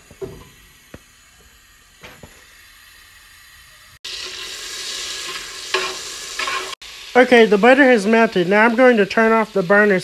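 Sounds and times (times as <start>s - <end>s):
butter sizzling in pot: 0.0s - 10.0s.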